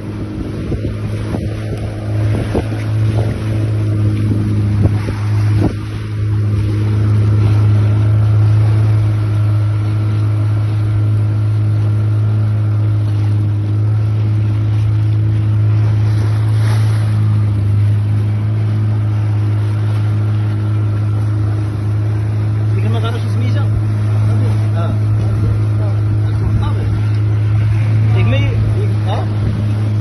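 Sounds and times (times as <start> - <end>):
boat engine running steadily: 0.0 - 30.0
wind and water noise: 0.0 - 30.0.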